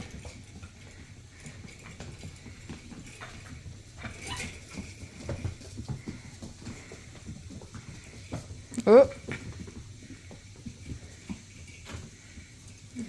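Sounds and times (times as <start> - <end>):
paws pattering and scraping: 0.0 - 13.0
puppies scuffling and playing: 0.0 - 13.0.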